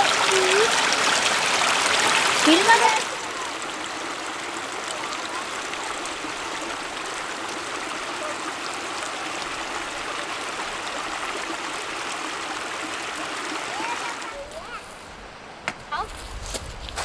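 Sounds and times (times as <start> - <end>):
stream trickling over stones: 0.0 - 14.7.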